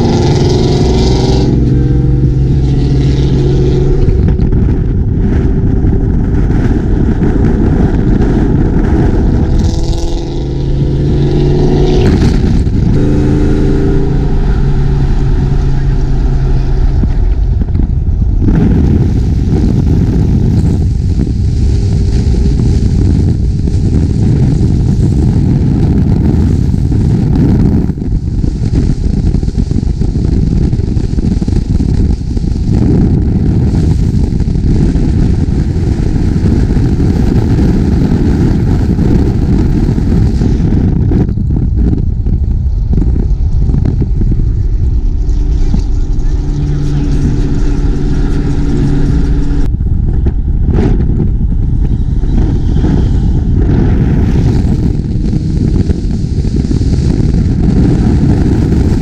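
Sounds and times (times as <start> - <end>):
car engines and exhausts running: 0.0 - 59.0.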